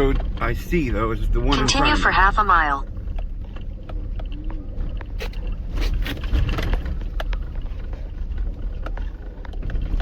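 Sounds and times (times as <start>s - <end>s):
vehicle cabin rumble: 0.0s - 10.0s.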